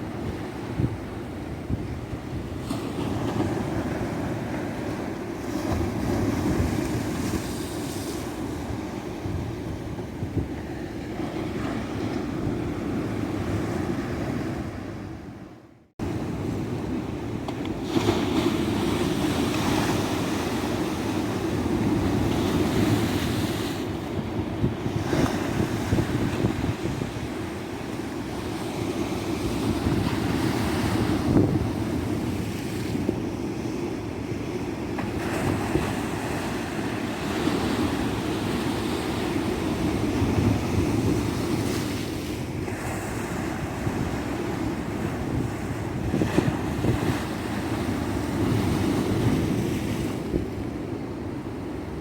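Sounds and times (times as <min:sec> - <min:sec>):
wind on microphone: 0:00.0 - 0:15.4, 0:16.0 - 0:34.4, 0:35.0 - 0:52.0
ocean waves breaking on beach: 0:00.0 - 0:52.0.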